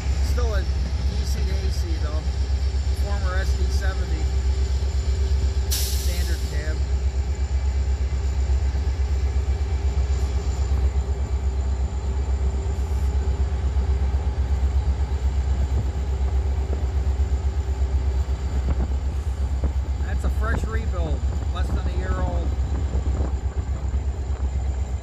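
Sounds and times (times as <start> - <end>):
locomotive rumble: 0.0 - 25.0.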